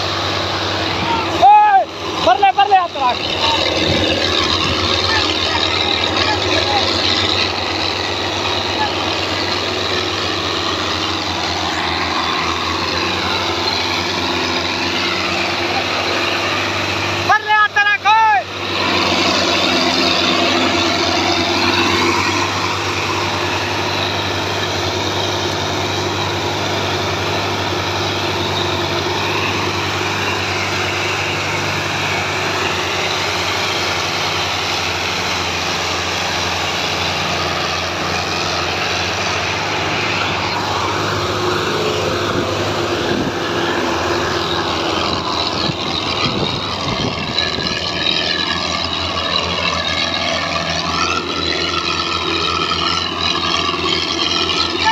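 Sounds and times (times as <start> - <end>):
tractor diesel engine drone: 0.0 - 54.9.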